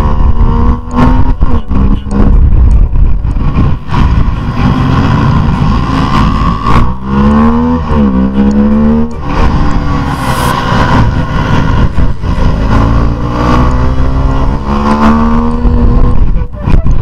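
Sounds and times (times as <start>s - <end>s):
motorcycle engine revving: 0.0s - 16.4s
wind rush on microphone: 0.0s - 17.0s.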